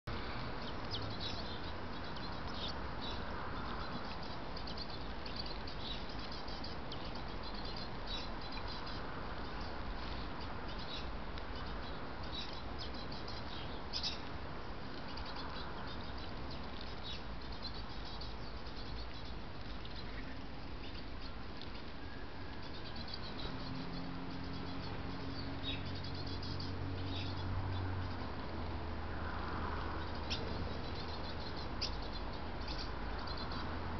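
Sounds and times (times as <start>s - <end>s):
garden birds chirping: 0.0s - 33.9s.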